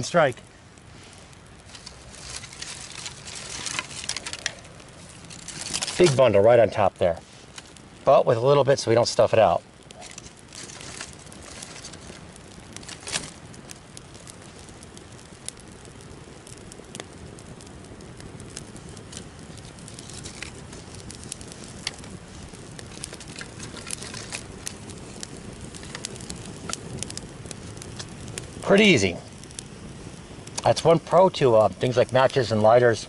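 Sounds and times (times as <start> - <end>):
campfire crackles and pops: 0.0 - 33.0
campfire hissing: 0.0 - 33.0.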